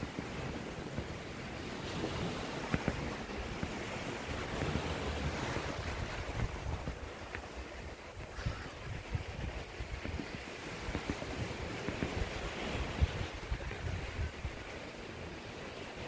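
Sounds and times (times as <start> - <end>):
surf washing onto beach: 0.0 - 16.0
wind buffeting microphone: 0.0 - 16.0.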